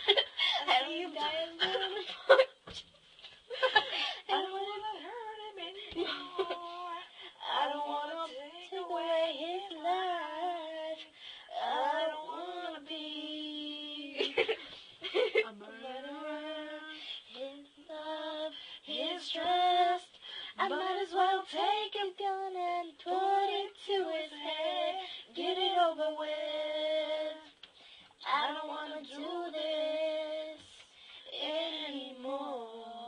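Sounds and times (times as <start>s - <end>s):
girls singing together: 0.0s - 2.7s, 3.5s - 33.0s.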